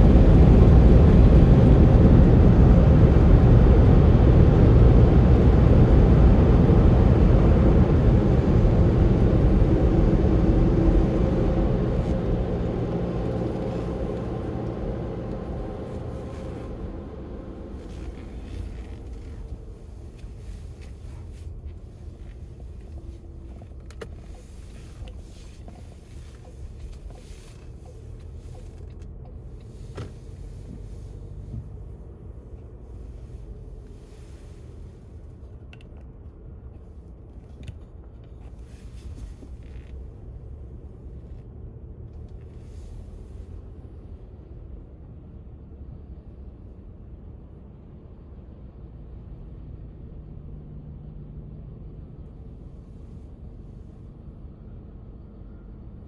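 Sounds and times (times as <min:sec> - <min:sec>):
low rumble of road traffic: 0:00.0 - 0:56.0.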